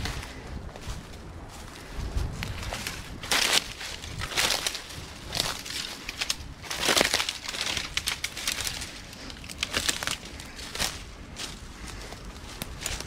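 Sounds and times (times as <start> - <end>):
footsteps crunching dry undergrowth: 0.0 - 13.0.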